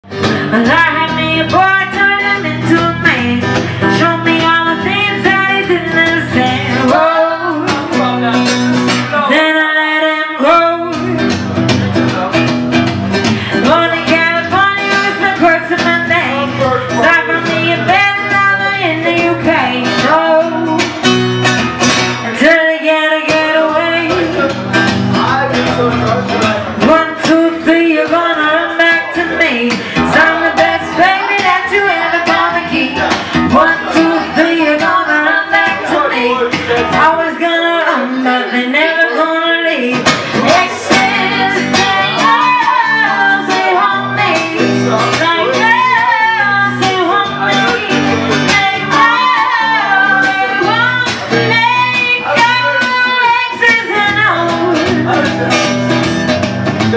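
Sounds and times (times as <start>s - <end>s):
woman singing into microphone: 0.0s - 11.7s, 13.2s - 21.6s, 22.2s - 24.5s, 26.4s - 55.9s
strummed acoustic guitar: 0.0s - 56.9s.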